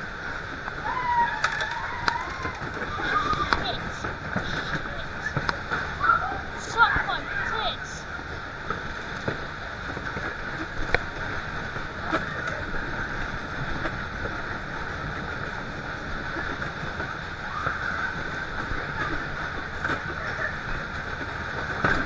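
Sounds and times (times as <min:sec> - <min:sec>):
ride machinery noise: 0:00.0 - 0:22.0.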